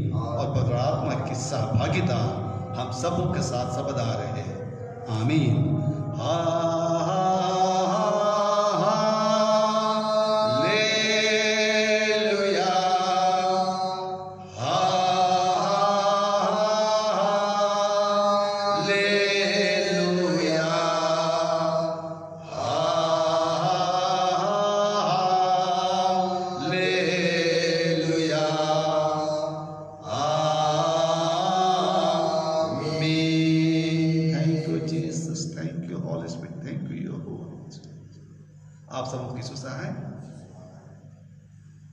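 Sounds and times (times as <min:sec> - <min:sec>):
person singing a slow hymn: 0:00.0 - 0:36.0
man chanting: 0:00.0 - 0:37.9, 0:38.9 - 0:40.7.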